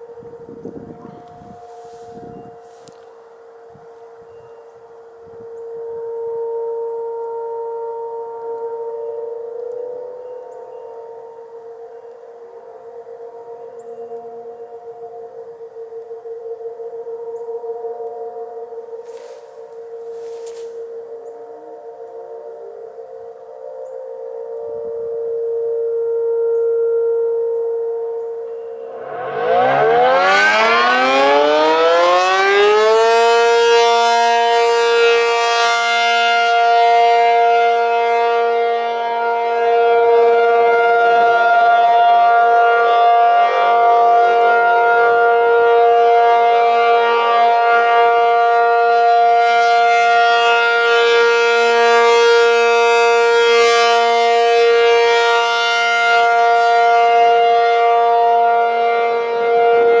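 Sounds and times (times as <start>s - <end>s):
outdoor warning siren: 0.0s - 60.0s.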